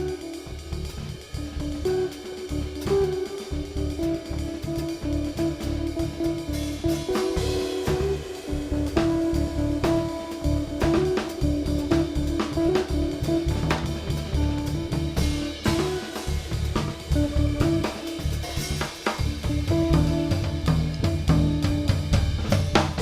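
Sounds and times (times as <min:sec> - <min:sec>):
jazz trio playing: 0:00.0 - 0:23.0.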